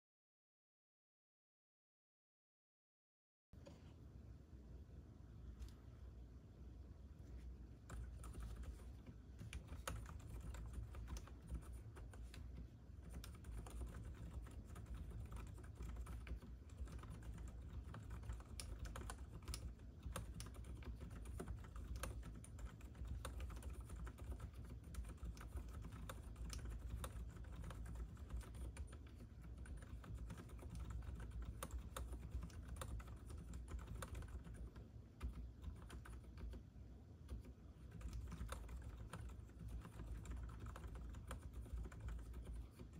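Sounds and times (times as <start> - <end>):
soft mechanical keyboard typing: 7.8 - 42.9.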